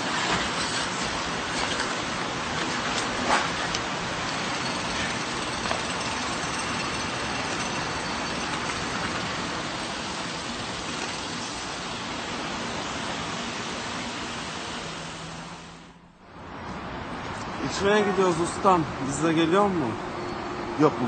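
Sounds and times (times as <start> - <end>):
road traffic rushing: 1.3 - 21.0.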